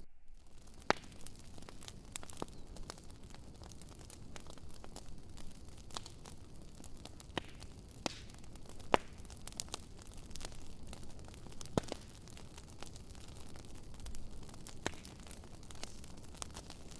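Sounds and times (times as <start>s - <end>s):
wood fire crackling and popping: 0.4s - 16.9s.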